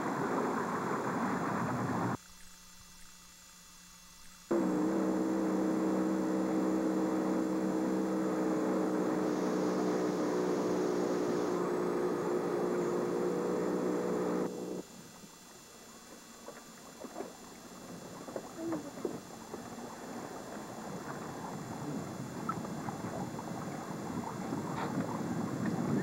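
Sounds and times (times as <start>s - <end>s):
boat motor running: 4.1s - 26.0s.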